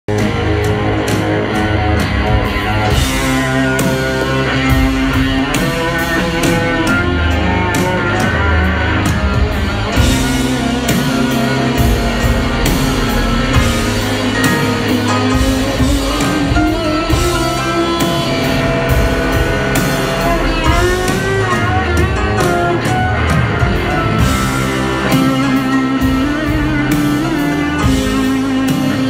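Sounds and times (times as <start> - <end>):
electric guitar: 0.0 - 29.0
live rock band playing: 0.0 - 29.0.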